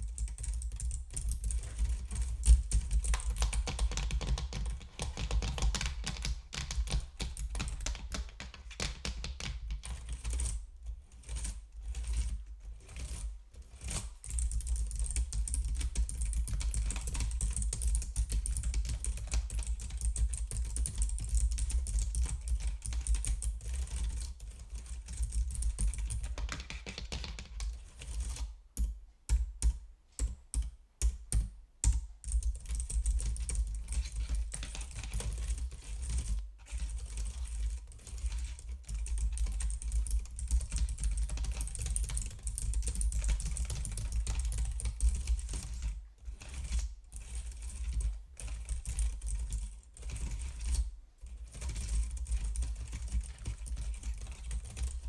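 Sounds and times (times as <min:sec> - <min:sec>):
typing on computer keyboard: 0:00.0 - 0:10.6, 0:13.9 - 0:28.4, 0:29.3 - 0:45.9, 0:51.6 - 0:55.0.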